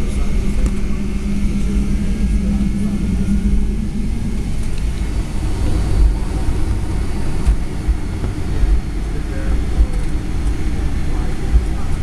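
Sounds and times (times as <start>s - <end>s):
jet engines rumbling: 0.0s - 12.0s
steady hum: 0.0s - 12.0s.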